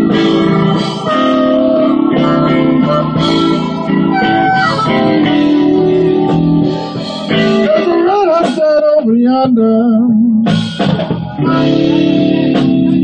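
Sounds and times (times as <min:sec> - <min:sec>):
bending guitar lead line: 0:00.0 - 0:09.0, 0:10.4 - 0:13.0
live band music: 0:00.0 - 0:13.0.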